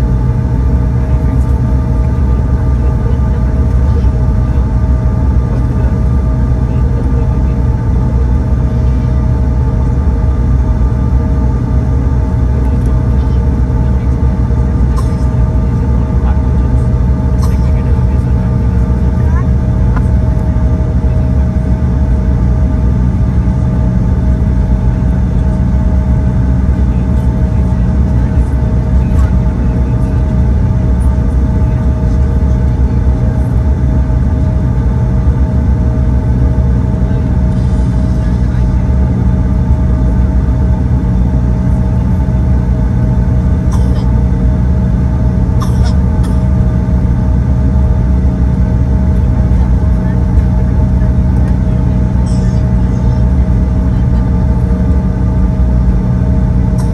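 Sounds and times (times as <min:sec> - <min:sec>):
aircraft cabin low rumble: 0:00.0 - 0:56.9
jet engine whine: 0:00.0 - 0:56.9.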